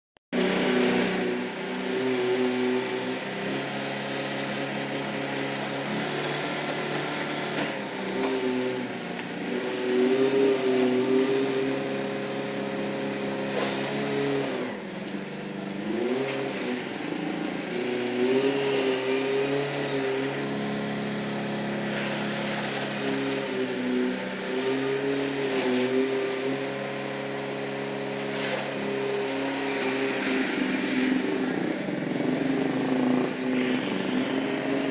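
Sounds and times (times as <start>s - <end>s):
concrete mixer engine under load: 0.4s - 34.9s.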